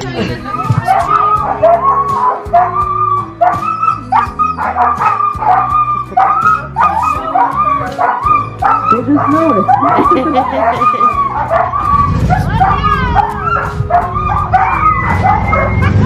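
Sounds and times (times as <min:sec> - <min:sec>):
background music: 0:00.0 - 0:16.0
sled dogs yipping and barking: 0:00.4 - 0:16.0.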